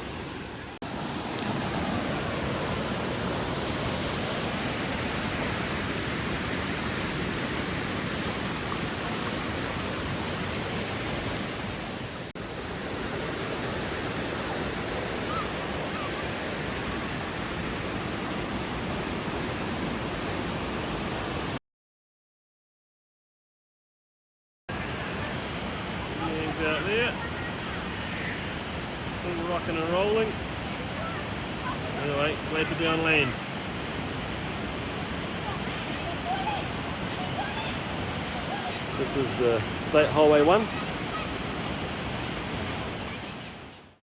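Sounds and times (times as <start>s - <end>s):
rushing water hiss: 0.0s - 21.6s, 24.7s - 44.0s.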